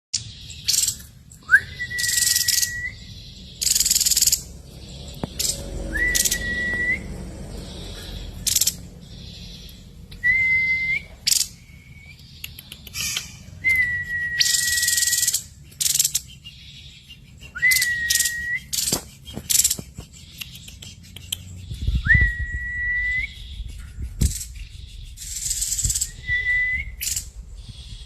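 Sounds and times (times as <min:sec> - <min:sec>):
bird whistling: 0:00.6 - 0:04.5, 0:05.4 - 0:12.3, 0:13.0 - 0:24.4, 0:25.0 - 0:28.0.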